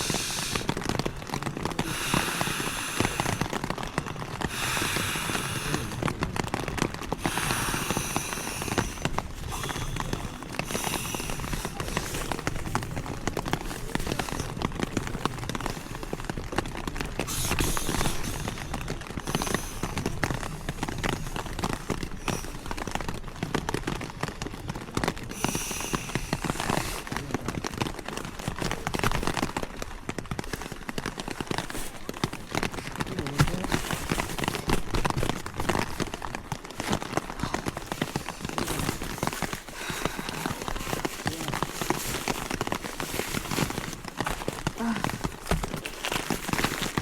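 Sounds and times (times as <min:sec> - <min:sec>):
rain pattering on a tent: 0:00.0 - 0:47.0.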